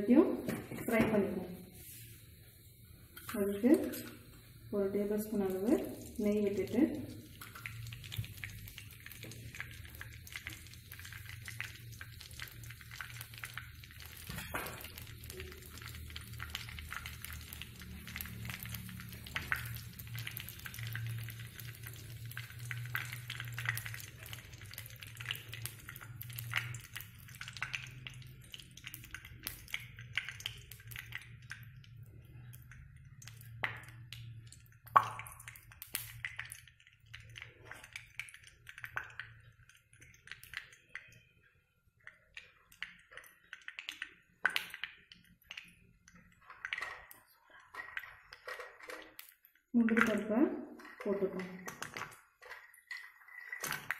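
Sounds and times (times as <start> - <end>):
ghee crackling sizzle: 0.0 - 53.9.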